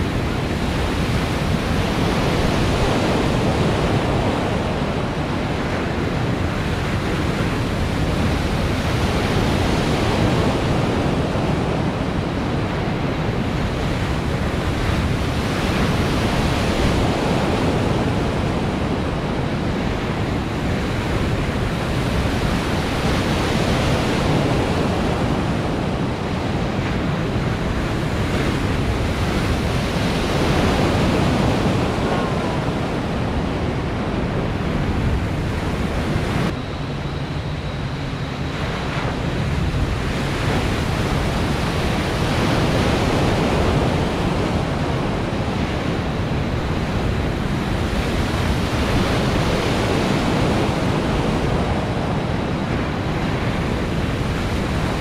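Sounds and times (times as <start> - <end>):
churning waves: 0.0 - 55.0
wind buffeting microphone: 0.0 - 55.0.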